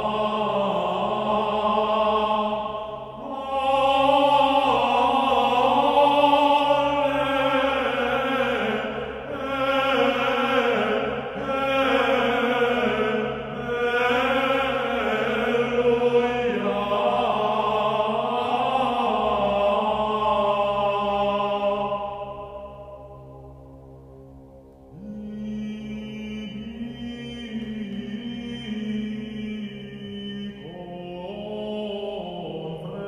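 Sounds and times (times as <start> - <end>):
slow chanted singing: 0.0 - 33.0.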